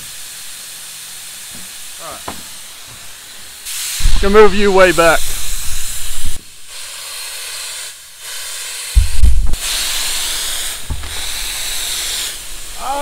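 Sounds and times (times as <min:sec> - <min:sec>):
spray gun hissing: 0:00.0 - 0:13.0.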